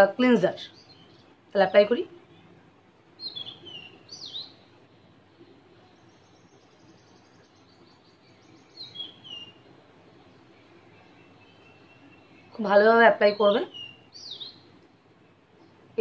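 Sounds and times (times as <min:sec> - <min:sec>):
faint room noise: 0:00.0 - 0:16.0
bird chirping: 0:00.4 - 0:16.0.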